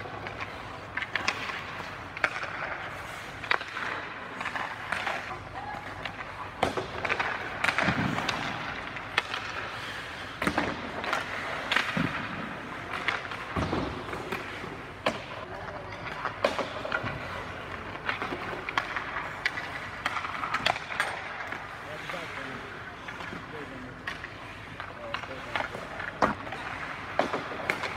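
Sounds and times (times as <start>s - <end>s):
pucks hitting boards: 0.0s - 27.9s
skates scraping on ice: 0.0s - 27.9s
sticks striking pucks: 0.0s - 27.9s.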